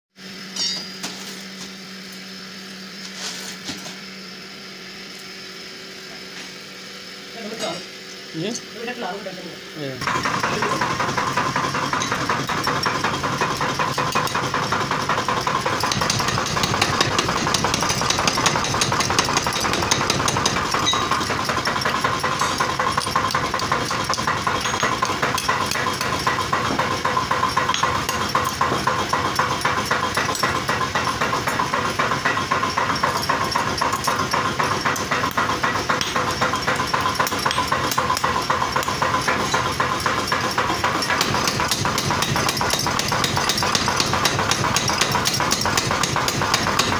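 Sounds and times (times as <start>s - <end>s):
power hammer striking: 0.5s - 1.4s, 10.0s - 46.9s.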